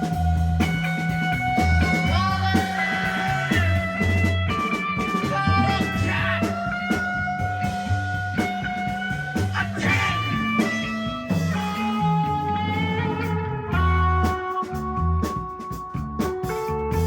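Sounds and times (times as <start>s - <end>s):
bass line: 0.0s - 17.0s
drums: 0.0s - 17.0s
sustained electric guitar notes: 0.0s - 17.0s.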